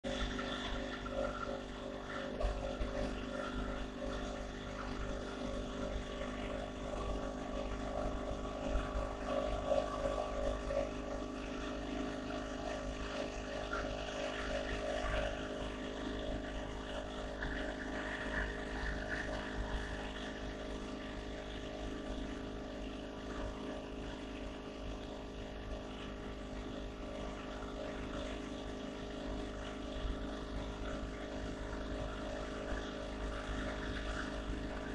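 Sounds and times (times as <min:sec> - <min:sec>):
motorcycle engine drone: 0:00.0 - 0:34.9.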